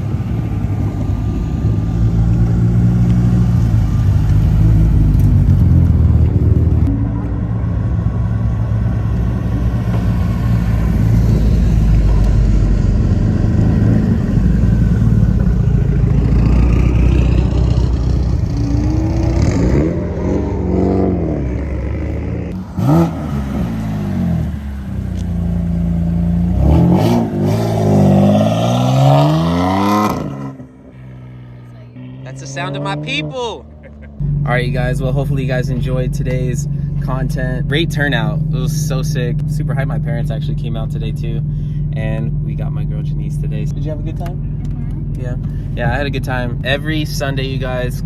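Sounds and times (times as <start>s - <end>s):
car engines rumbling and revving: 0.0s - 48.0s.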